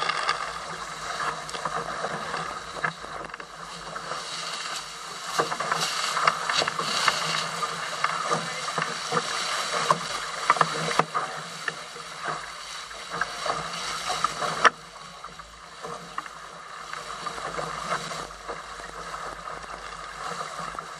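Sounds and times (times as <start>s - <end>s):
water splashing against hulls: 0.0s - 20.9s.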